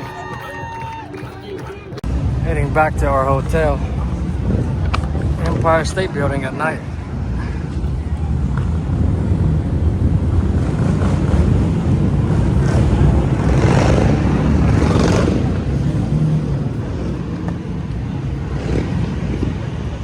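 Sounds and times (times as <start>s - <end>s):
traffic rumble: 0.0s - 20.0s
vehicle passing: 0.0s - 20.0s.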